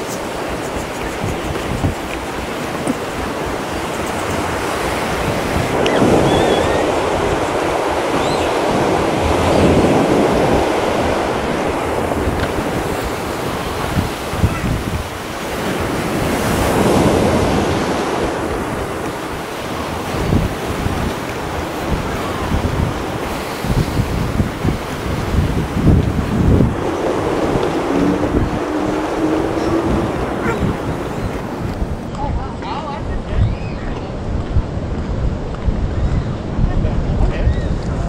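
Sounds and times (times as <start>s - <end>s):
ocean surf breaking: 0.0s - 33.3s
wind buffeting microphone: 0.0s - 38.0s.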